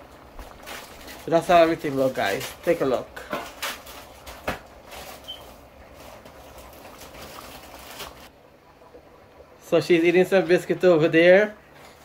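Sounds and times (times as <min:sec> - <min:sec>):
pots boiling with bubbling hiss: 0:00.0 - 0:12.0.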